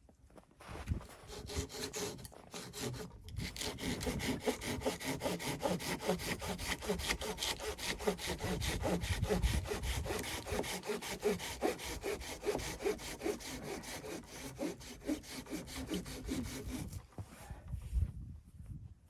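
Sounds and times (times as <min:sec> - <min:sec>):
hand saw cutting wood: 0:01.1 - 0:17.0.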